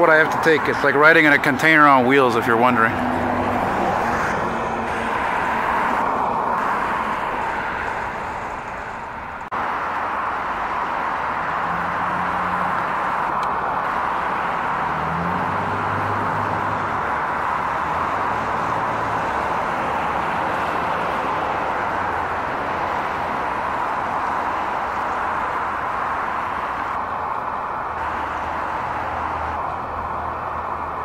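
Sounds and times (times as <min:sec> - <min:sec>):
vehicle road and engine noise: 0:00.0 - 0:31.0.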